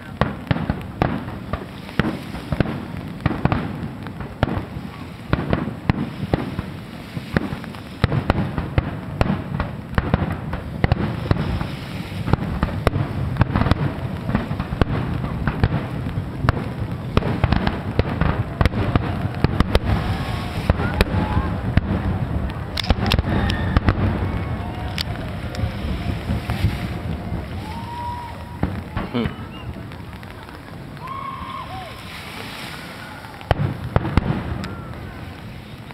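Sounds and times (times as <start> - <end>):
fireworks cracking and booming: 0.0 - 35.9.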